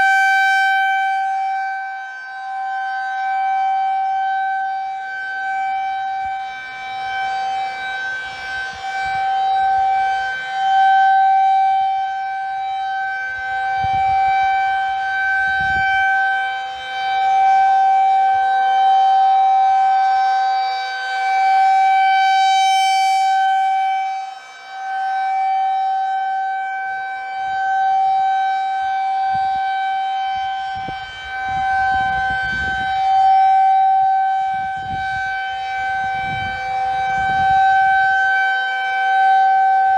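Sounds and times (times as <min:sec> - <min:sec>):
rotating tornado siren: 0:00.0 - 0:39.9.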